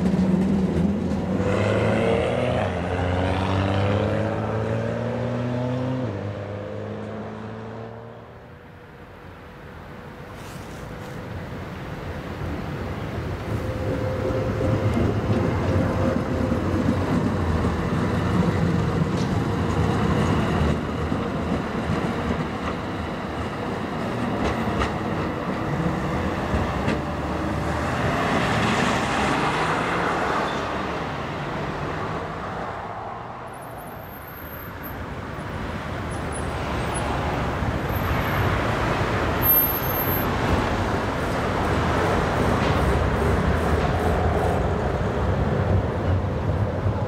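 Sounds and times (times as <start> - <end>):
tram rumbling on rails: 0.0 - 4.8, 8.8 - 47.0.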